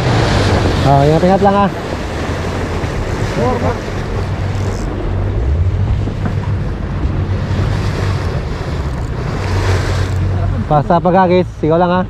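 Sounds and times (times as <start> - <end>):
low rumble: 0.0 - 12.0
water washing: 0.0 - 12.0
wind buffeting microphone: 0.0 - 12.0.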